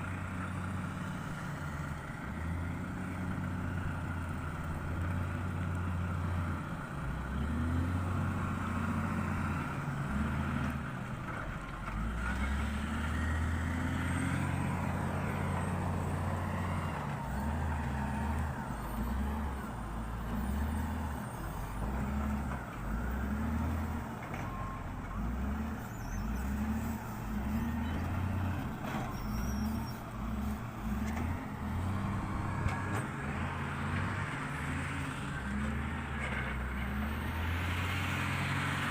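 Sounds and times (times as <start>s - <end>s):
heavy diesel engine: 0.0s - 38.9s.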